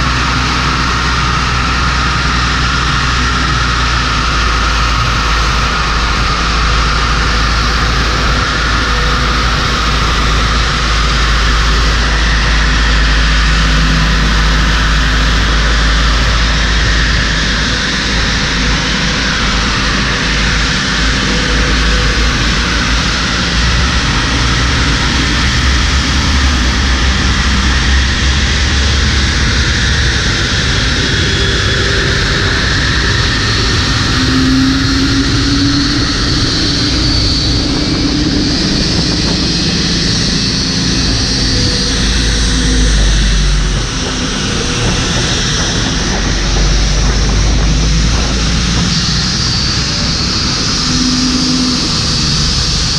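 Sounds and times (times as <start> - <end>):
jet engine noise: 0.0 - 52.9
faint whining tones: 0.8 - 52.9
pushback tug rumbling: 4.3 - 52.9.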